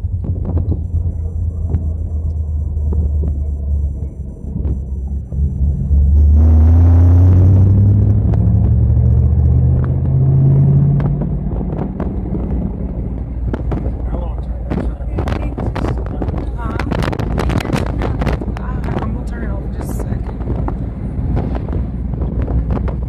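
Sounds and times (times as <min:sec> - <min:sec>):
car engine accelerating: 0:00.0 - 0:23.0
road noise inside car: 0:00.0 - 0:23.0.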